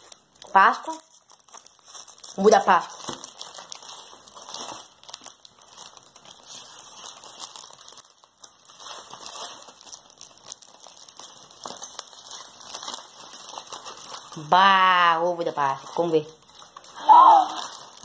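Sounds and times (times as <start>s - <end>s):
foil wrapper crinkling and tearing: 0.0s - 18.0s.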